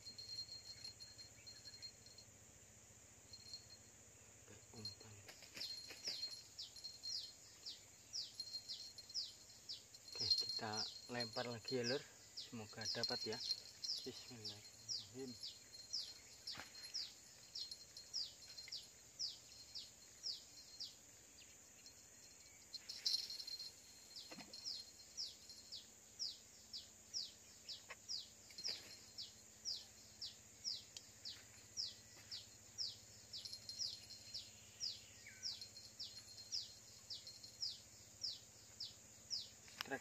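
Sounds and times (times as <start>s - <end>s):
rustle: 0.0s - 40.0s
steady high hiss: 0.0s - 40.0s.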